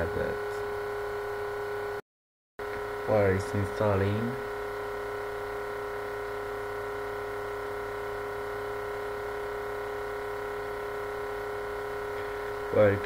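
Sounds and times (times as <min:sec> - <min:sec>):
electrical hum: 0:00.0 - 0:02.0, 0:02.6 - 0:13.0.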